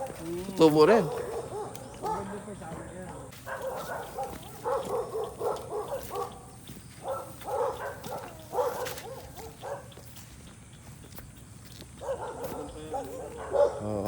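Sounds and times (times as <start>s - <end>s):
dog barking: 0.8s - 10.2s, 12.0s - 14.0s.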